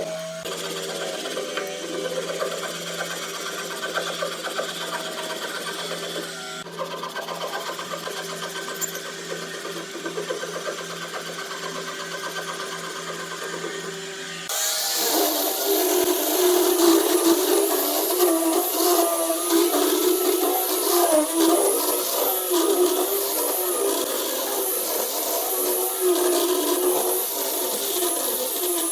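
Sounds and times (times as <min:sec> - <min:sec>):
small electric tool motor running: 0:00.0 - 0:28.9.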